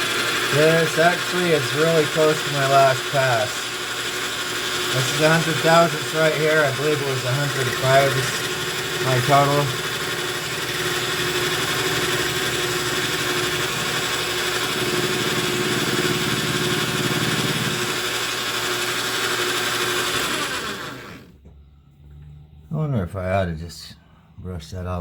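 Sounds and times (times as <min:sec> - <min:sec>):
lathe motor humming whine: 0:00.0 - 0:21.4.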